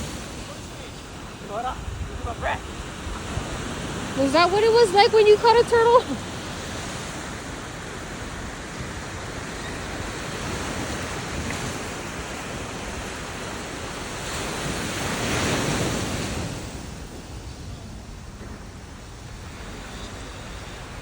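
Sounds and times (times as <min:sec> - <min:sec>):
surf washing in: 0:00.0 - 0:21.0.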